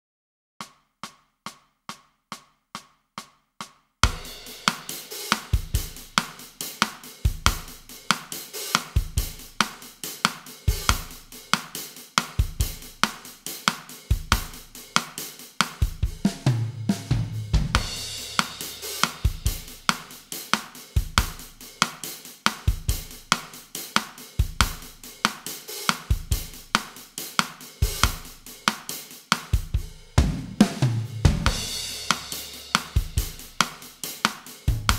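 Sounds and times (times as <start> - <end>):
drum kit playing bossa nova: 4.0 - 34.9.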